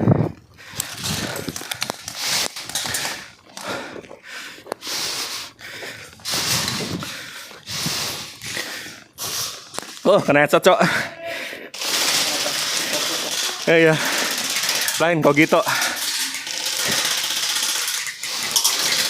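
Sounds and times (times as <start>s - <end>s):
person breathing hard: 0.0s - 10.0s, 10.8s - 15.0s, 15.6s - 19.0s.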